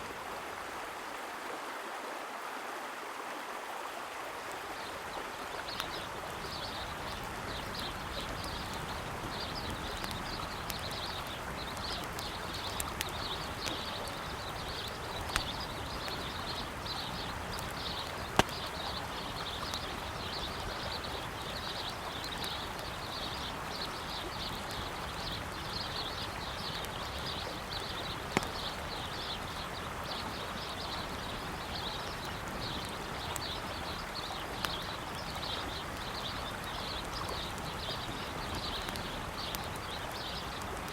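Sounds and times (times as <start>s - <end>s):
river water rushing: 0.0s - 40.9s
campfire crackling and popping: 4.4s - 40.9s
small birds chirping: 4.4s - 40.9s.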